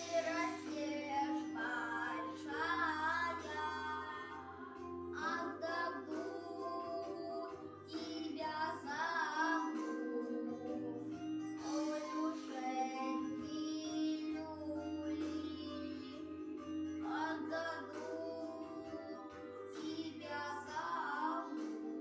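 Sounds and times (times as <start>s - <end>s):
child singing: 0.0s - 22.0s
instrumental backing track: 0.0s - 22.0s
woman singing: 0.0s - 22.0s.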